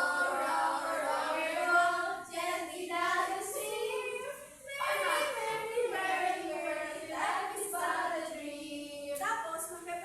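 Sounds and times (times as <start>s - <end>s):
young children singing: 0.0s - 9.2s.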